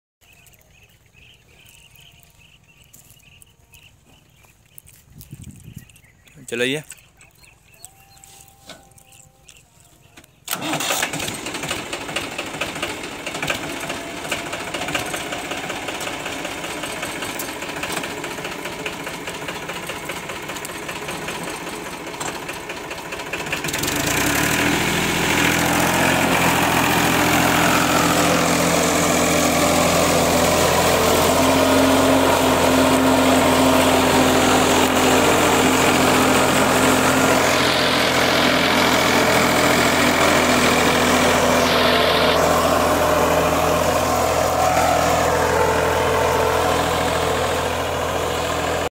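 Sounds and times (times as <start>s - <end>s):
tractor diesel engine: 0.2s - 48.9s.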